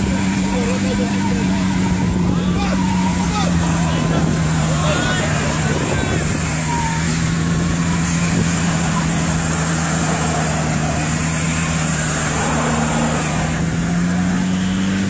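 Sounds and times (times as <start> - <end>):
car engine at high revs: 0.0 - 15.0
tyres spinning on grass and dirt: 0.0 - 15.0.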